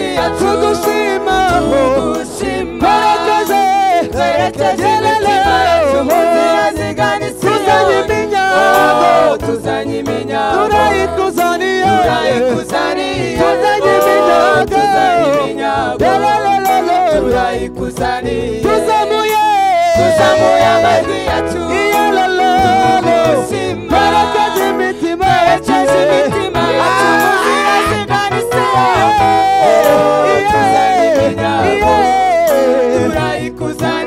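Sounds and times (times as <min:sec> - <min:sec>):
group singing gospel song: 0:00.0 - 0:34.0.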